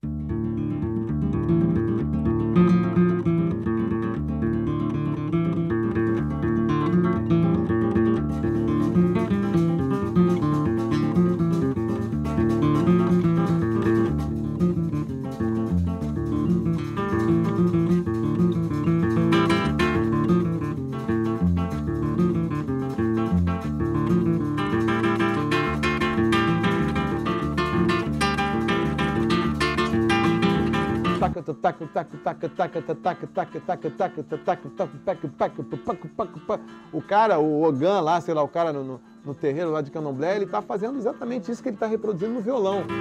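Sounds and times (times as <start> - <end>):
nylon-string guitar playing rhythmically: 0.0 - 43.0.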